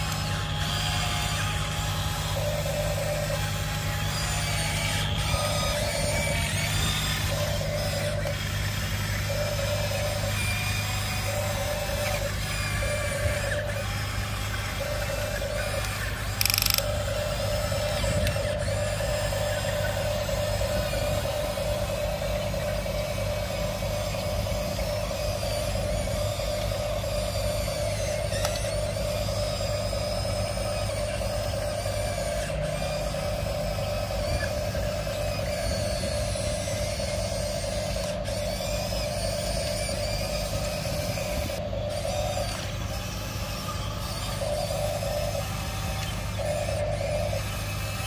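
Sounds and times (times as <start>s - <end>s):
toy excavator motors whining: 0.0s - 48.0s.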